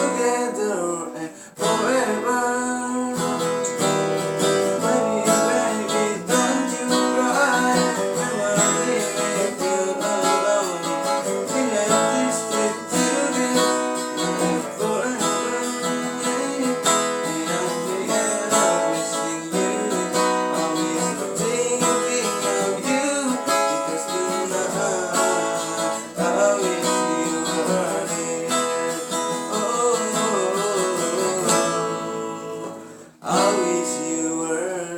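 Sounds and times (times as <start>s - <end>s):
strummed acoustic guitar song: 0.0s - 34.9s.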